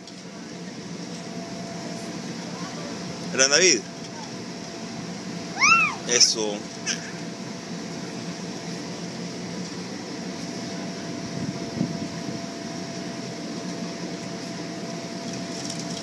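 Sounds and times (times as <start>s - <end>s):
electric blower fan whirring: 0.0s - 16.0s.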